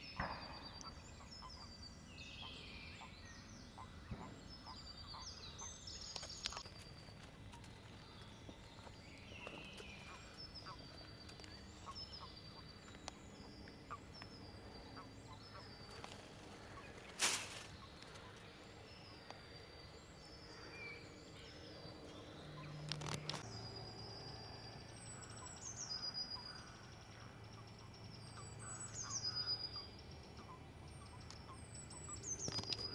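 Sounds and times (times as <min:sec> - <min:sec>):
frogs croaking: 0:00.2 - 0:32.9.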